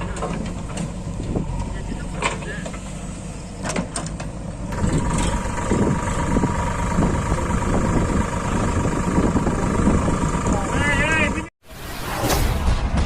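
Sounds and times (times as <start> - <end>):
heavy diesel engine running: 0.0 - 11.5.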